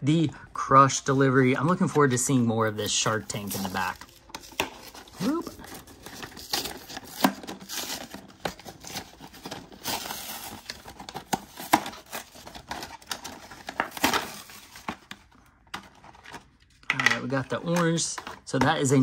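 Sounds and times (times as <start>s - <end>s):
cardboard and plastic tearing: 2.6s - 19.0s.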